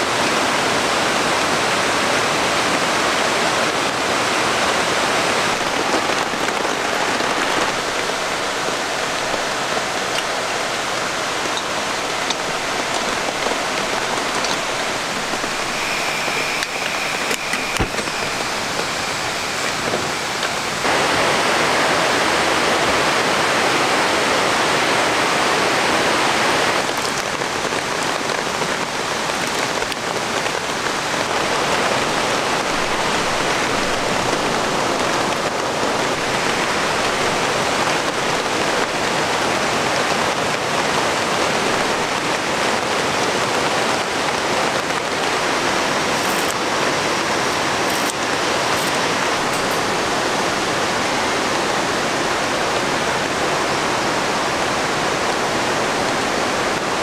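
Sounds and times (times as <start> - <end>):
falling rain: 0.0 - 57.0
waterfall and stream rushing: 0.0 - 57.0.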